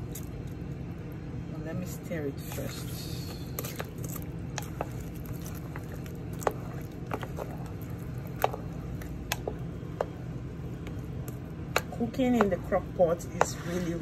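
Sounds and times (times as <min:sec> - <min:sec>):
spoon stirring wet food: 0:02.4 - 0:14.0.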